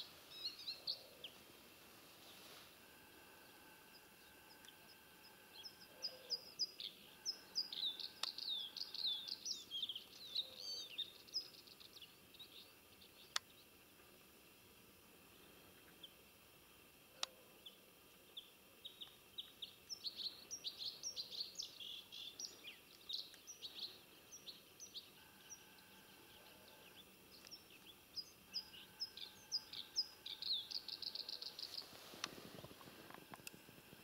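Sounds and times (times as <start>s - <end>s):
songbird singing: 0.0s - 1.5s, 2.2s - 14.2s, 15.2s - 33.6s.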